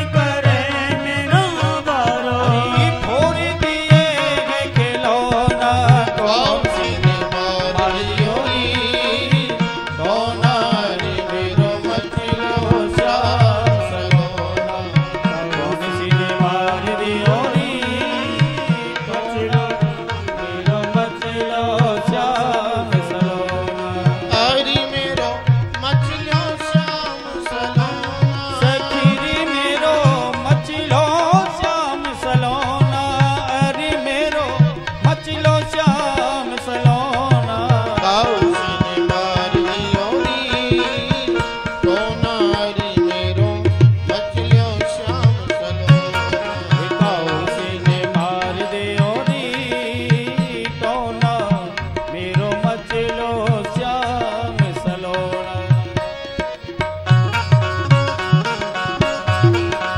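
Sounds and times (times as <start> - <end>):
devotional music: 0.0 - 59.9
tabla beat: 0.0 - 59.9.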